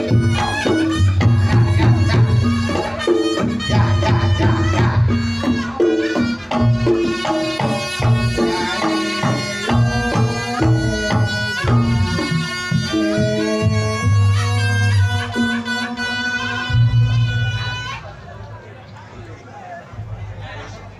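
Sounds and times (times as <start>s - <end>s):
drums: 0.0s - 20.9s
reedy shawm melody: 0.0s - 20.9s.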